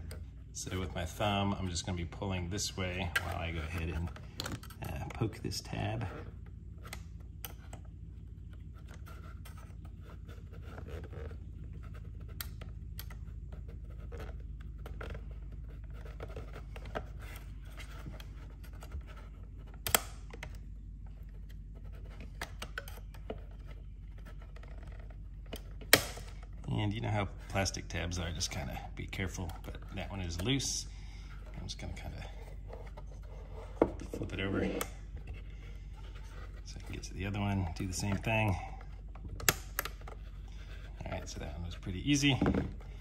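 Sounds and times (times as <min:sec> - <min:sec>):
screwdriver scraping plastic: 0:00.0 - 0:07.8, 0:08.5 - 0:43.0
steady low hum: 0:00.0 - 0:43.0.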